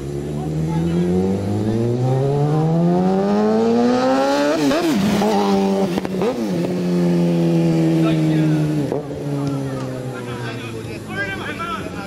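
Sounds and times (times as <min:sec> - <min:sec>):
engine revving: 0:00.0 - 0:10.5.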